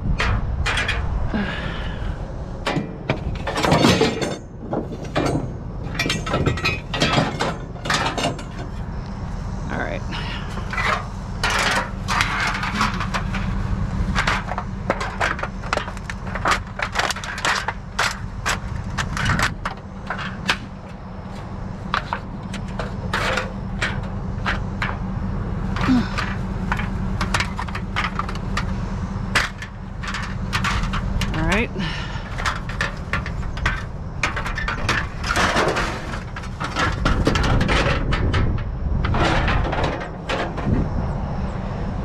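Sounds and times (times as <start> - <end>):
sheet metal clanking and scraping: 0.0 - 41.0
steady low rumble: 0.0 - 42.0.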